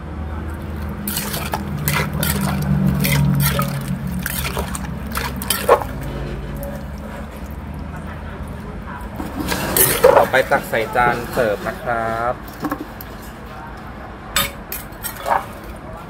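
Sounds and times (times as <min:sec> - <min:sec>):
wet squelching of salad: 0:00.4 - 0:13.2, 0:14.5 - 0:15.9
metal ladle scraping a bowl: 0:00.5 - 0:07.8, 0:09.1 - 0:13.5, 0:14.4 - 0:15.7.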